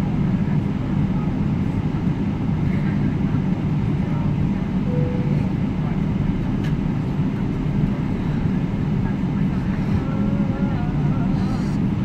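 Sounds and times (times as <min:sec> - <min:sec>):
airliner cabin rumbling drone: 0:00.0 - 0:12.0.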